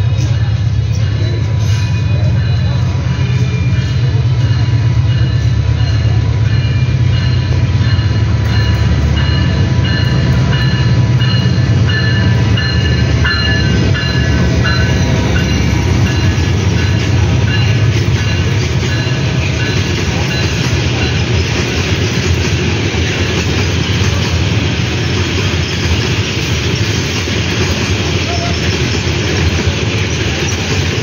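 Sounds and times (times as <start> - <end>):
diesel locomotive engine drone: 0.0 - 31.0.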